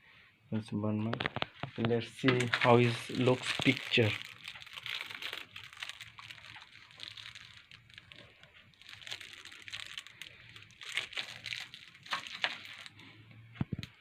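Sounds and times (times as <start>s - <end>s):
crinkling and rustling: 1.0s - 14.0s.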